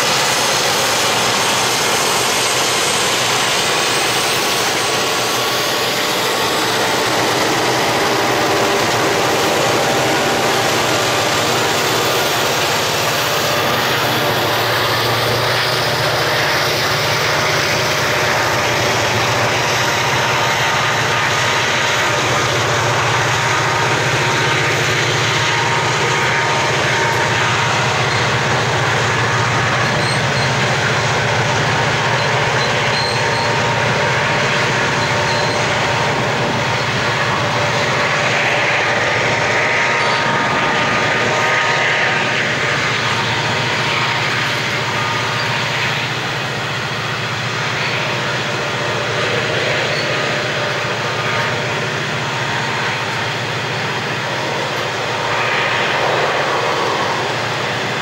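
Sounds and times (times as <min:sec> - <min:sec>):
thin steady squealing: 0:00.0 - 0:58.0
wheels rumbling on rail: 0:00.0 - 0:58.0
low hum: 0:00.2 - 0:58.0.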